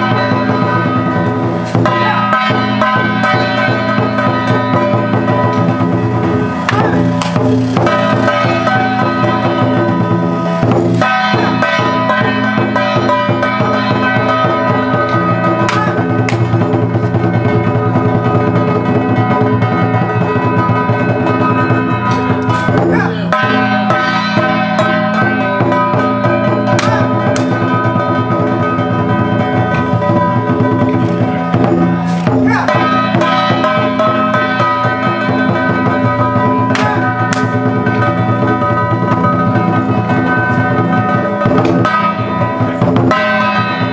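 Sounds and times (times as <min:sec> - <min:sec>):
drums and percussion: 0:00.0 - 0:43.9
sustained pitched melody: 0:00.0 - 0:43.9.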